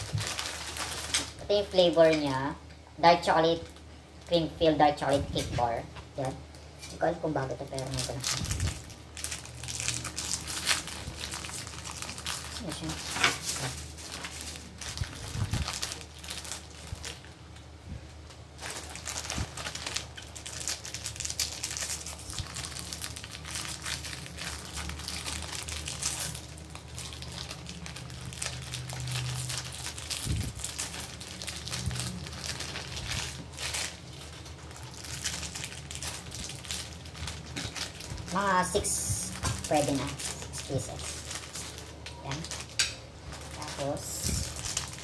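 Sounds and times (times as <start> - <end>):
plastic wrappers crinkling and tearing: 0.0 - 2.5, 3.2 - 45.0.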